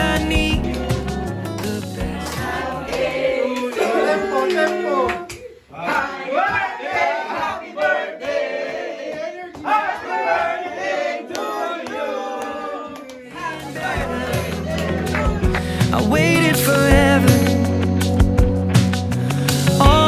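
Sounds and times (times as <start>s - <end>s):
pop song with layered vocals: 0.0s - 20.0s.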